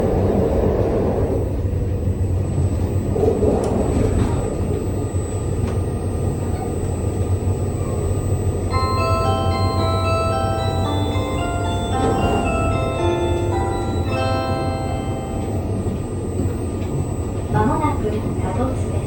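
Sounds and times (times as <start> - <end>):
train interior low rumble: 0.0 - 19.0.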